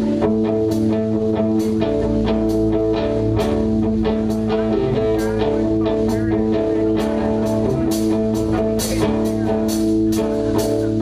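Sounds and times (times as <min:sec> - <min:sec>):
bass line: 0:00.0 - 0:11.0
guitar chords: 0:00.0 - 0:11.0
steady drum beat: 0:00.0 - 0:11.0.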